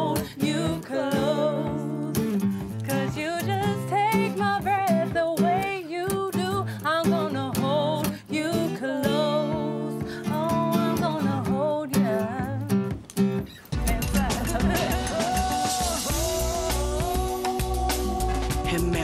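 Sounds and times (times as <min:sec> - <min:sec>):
person singing: 0:00.0 - 0:12.9, 0:13.5 - 0:19.0
acoustic guitar: 0:00.0 - 0:19.0.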